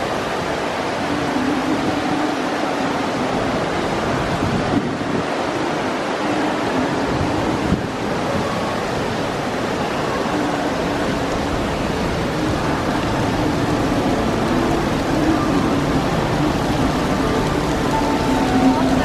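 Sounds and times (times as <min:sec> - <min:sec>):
crowd hubbub: 0:00.0 - 0:19.0.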